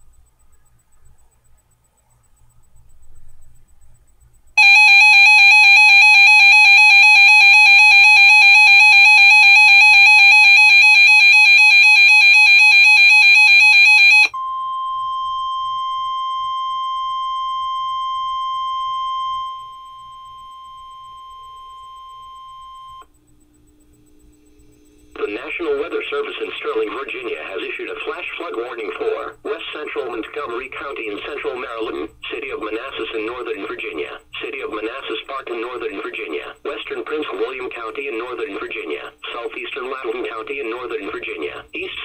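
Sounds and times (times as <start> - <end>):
rapidly pulsed electronic alarm: 2.6 - 42.0
steady alarm tone: 3.7 - 42.0.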